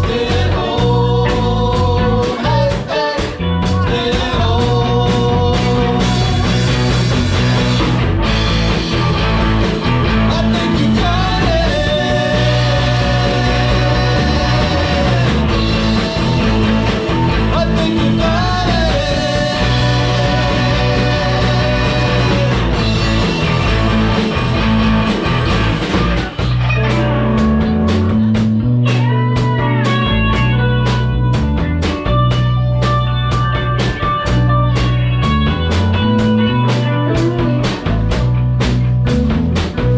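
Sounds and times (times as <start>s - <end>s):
blues rock band playing: 0.0s - 39.9s
guitar with bent notes: 0.0s - 39.9s.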